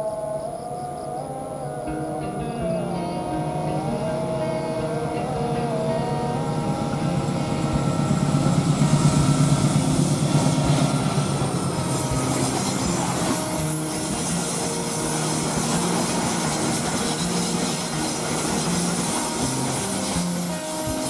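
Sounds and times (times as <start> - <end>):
faint high whine: 0.0 - 21.0
diesel locomotive engine throbbing: 1.7 - 21.0.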